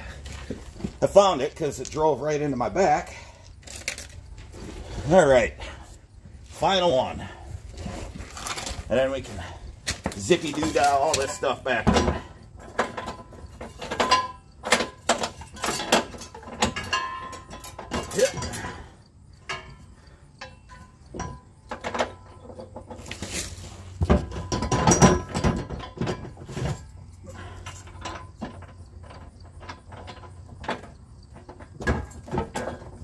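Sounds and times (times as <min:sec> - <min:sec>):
metal hitch clanking and scraping: 0:00.0 - 0:33.0.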